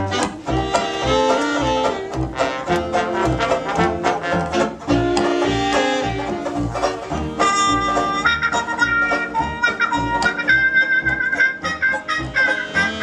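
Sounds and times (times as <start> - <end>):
trumpet high note: 0.0 - 6.3, 7.3 - 13.0
plucked string and bass beat: 0.0 - 13.0
saxophones and brass: 0.0 - 13.0.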